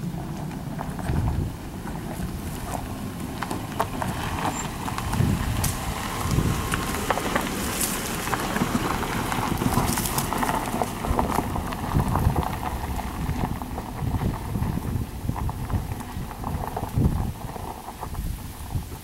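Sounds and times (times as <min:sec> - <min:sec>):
car engine running: 0:00.0 - 0:19.0
tyres crunching over stones: 0:00.1 - 0:19.0.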